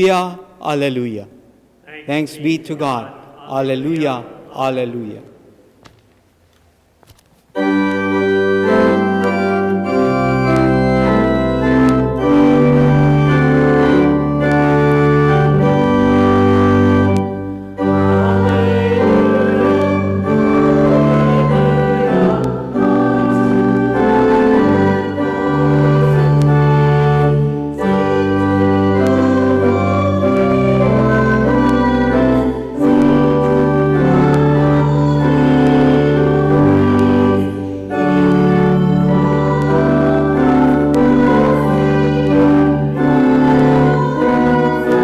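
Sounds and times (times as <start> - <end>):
church organ chords: 7.5 - 45.0.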